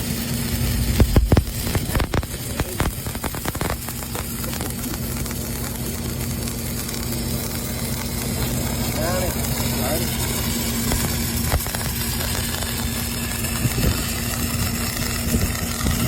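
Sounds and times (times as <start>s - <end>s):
engine hum: 0.0s - 16.0s
welder arc crackling hiss: 0.0s - 16.0s.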